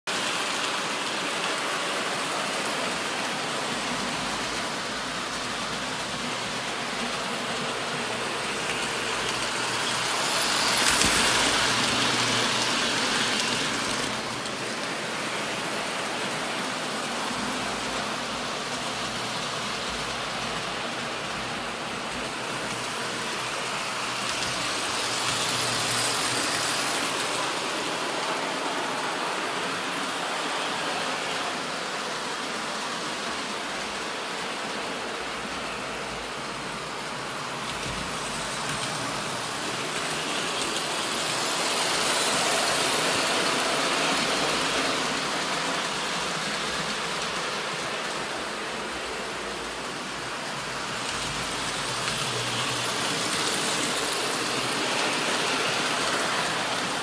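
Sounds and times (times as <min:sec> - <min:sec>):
toy train rumbling on metal track: 0:00.1 - 0:57.0.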